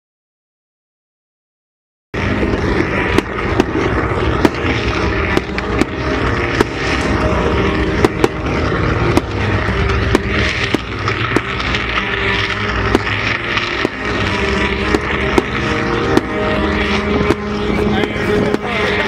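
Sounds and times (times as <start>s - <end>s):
fireworks cracks and bangs: 2.2s - 19.0s
fireworks rumble: 2.2s - 19.0s.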